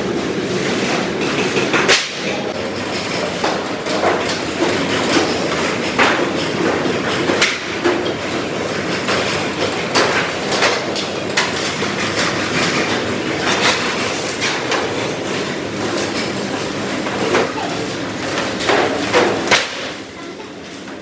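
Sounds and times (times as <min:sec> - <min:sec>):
continuous mechanical clatter: 0:00.0 - 0:21.0.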